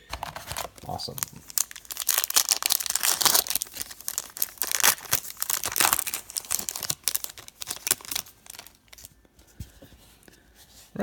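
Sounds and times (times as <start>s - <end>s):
wrapper tearing and crinkling: 0.1s - 9.1s.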